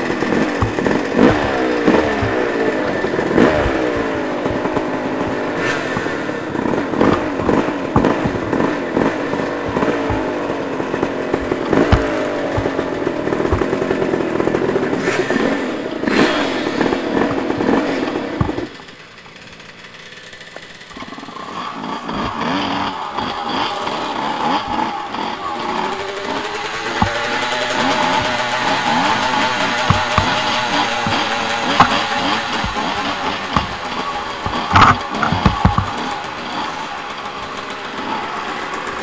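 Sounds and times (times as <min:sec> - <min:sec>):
dirt bike engine running: 0:00.0 - 0:39.0
knocks and clatter over rocks: 0:00.0 - 0:39.0.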